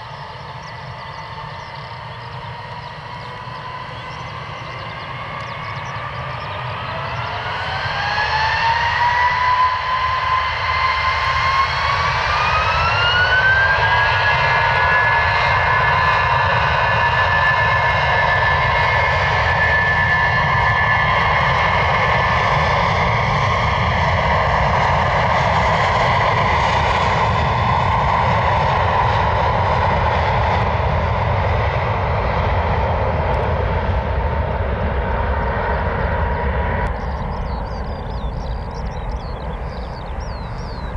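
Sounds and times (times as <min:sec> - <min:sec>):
jet engine rumble: 0:00.0 - 0:40.9
jet engine whine: 0:00.0 - 0:40.9.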